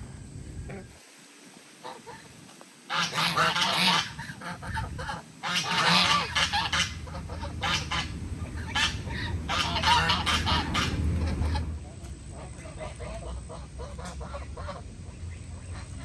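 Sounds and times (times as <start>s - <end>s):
steady low hum: 0.0s - 16.0s
honking bird calls: 2.9s - 16.0s.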